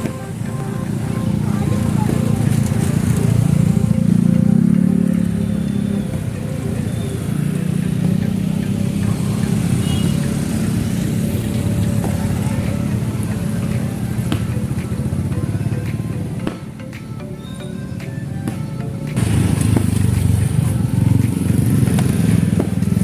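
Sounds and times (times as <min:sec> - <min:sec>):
motorcycle engine running: 0:00.0 - 0:16.5, 0:19.1 - 0:23.0.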